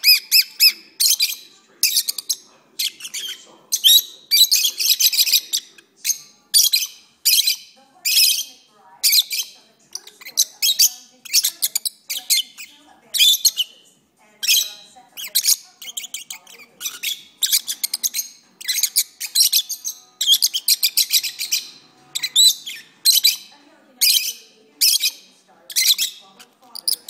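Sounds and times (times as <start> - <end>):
lovebirds chirping shrilly: 0.0 - 27.0.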